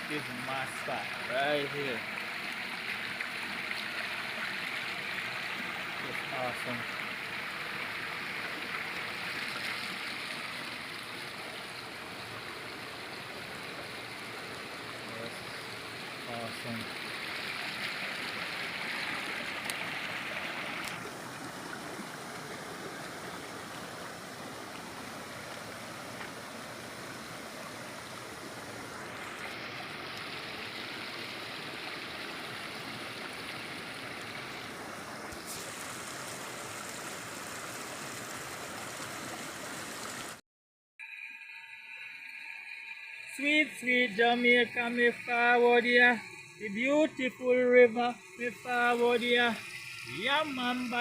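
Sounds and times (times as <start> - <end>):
water rushing over rocks: 0.0 - 40.4, 42.2 - 51.0.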